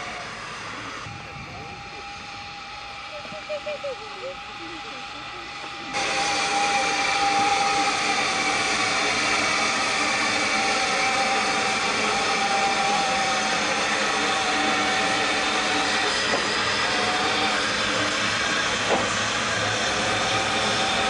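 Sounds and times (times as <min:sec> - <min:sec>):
steam hissing with ringing tone: 0:00.0 - 0:21.0.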